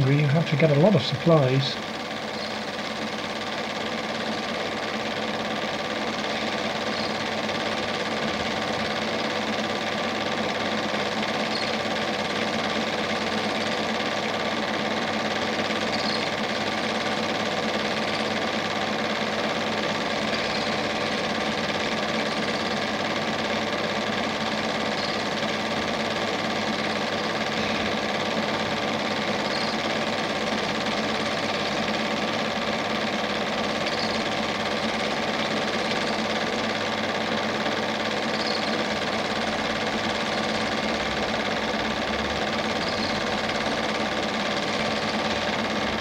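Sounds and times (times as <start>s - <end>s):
film projector whirring: 0.0s - 46.0s.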